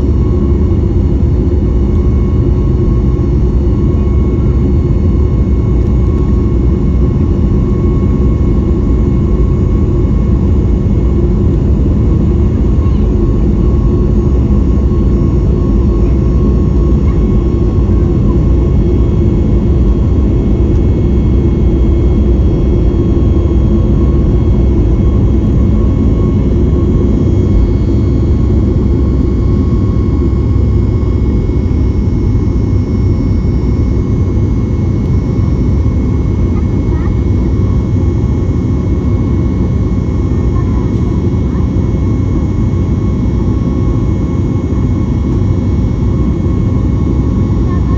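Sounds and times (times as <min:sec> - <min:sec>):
airliner cabin rumble: 0:00.0 - 0:47.9
faint steady whine: 0:00.0 - 0:47.9.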